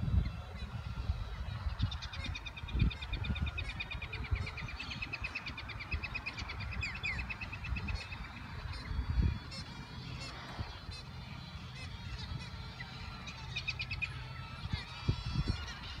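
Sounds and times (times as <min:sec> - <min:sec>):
bird trilling: 0:00.0 - 0:16.0
wind rumble on microphone: 0:00.0 - 0:16.0.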